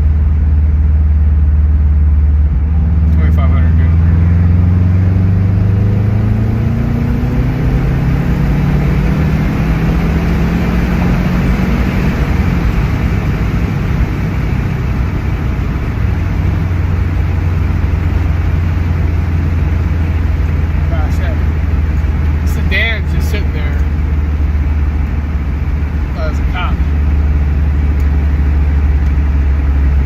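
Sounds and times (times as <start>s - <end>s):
car engine running steadily: 0.0s - 30.0s.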